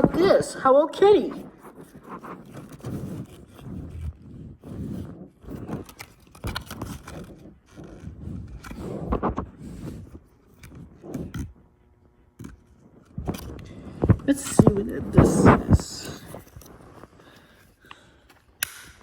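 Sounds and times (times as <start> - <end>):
packaging scraping and rubbing: 1.1 - 17.8.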